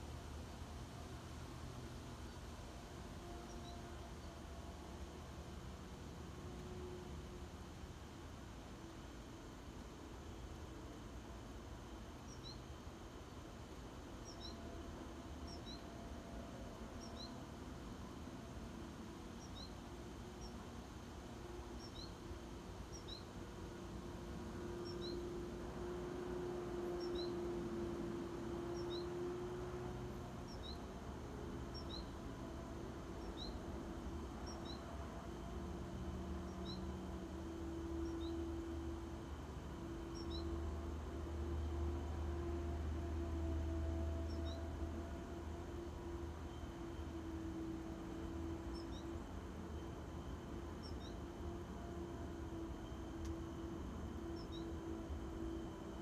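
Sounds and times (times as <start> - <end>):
low steady drone: 0.0 - 56.0.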